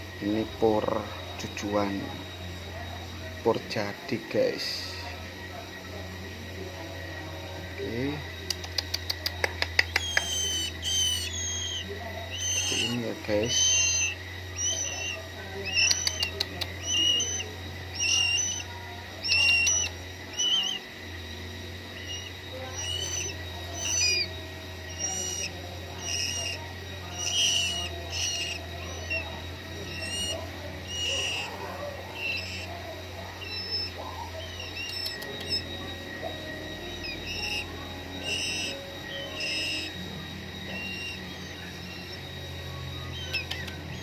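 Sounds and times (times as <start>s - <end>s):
nestlings begging chirps: 0.0s - 44.0s
steady low hum: 0.0s - 44.0s.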